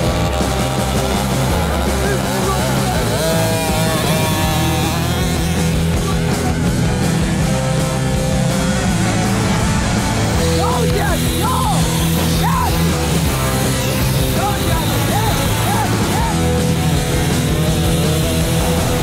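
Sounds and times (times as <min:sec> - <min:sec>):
loud rock music: 0:00.0 - 0:19.0
pitched sliding notes: 0:00.0 - 0:19.0.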